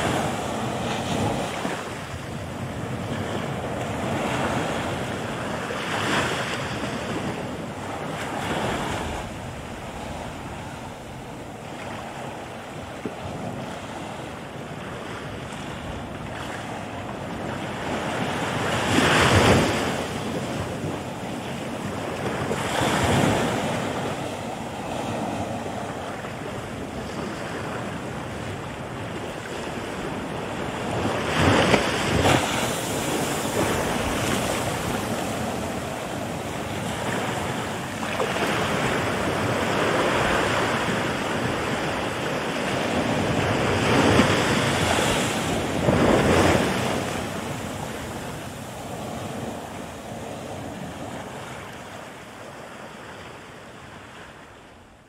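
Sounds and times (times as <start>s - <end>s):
ocean surf breaking: 0.0s - 54.4s.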